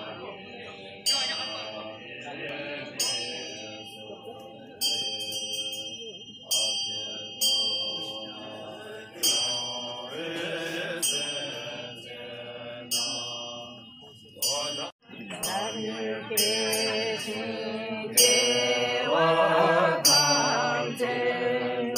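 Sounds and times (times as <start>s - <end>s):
monks chanting: 0.0s - 21.9s
metal bell struck: 1.0s - 2.0s, 2.9s - 19.2s, 20.0s - 21.1s.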